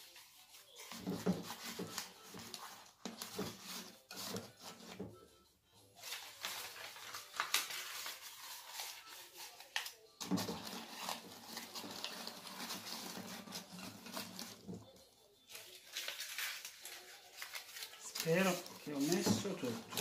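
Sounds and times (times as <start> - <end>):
cellophane crinkling: 0.1 - 5.0, 6.0 - 20.0.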